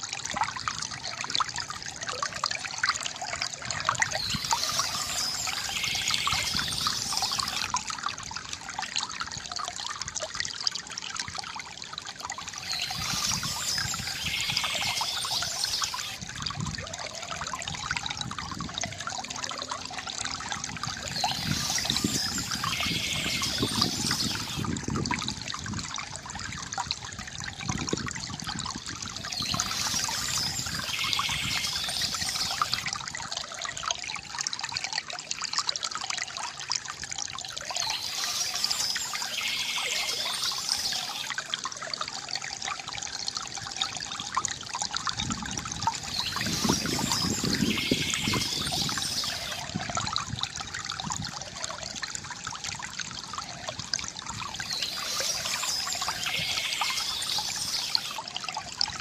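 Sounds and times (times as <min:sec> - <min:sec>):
water trickling from fountain spout: 0:00.0 - 0:59.0.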